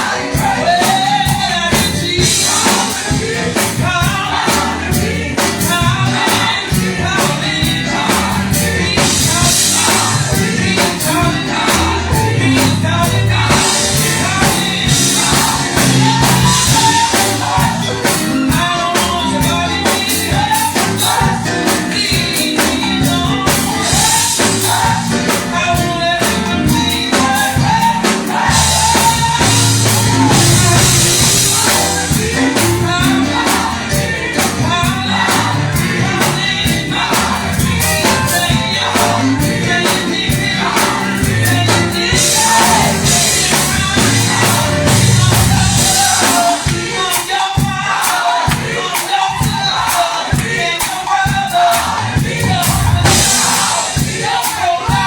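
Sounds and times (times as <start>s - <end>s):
bass: 0.0s - 47.0s, 51.3s - 55.0s
drums: 0.0s - 55.0s
gospel choir singing: 0.0s - 55.0s.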